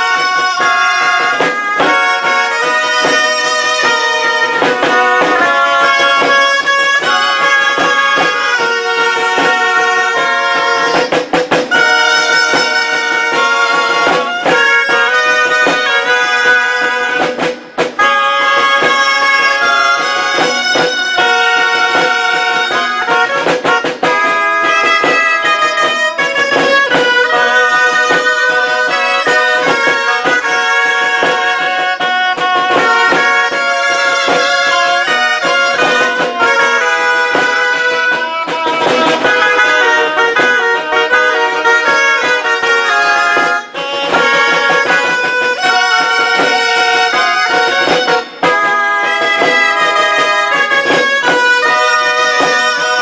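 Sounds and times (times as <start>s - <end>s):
shawms playing a melody: 0.0s - 53.0s.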